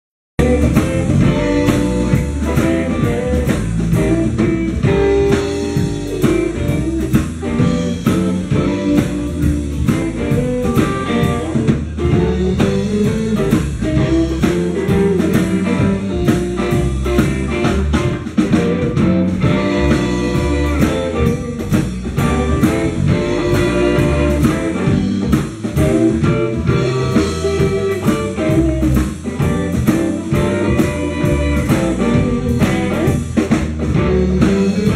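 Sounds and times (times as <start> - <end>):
drum kit: 0.4 - 34.9
guitar playing blues: 0.4 - 34.9.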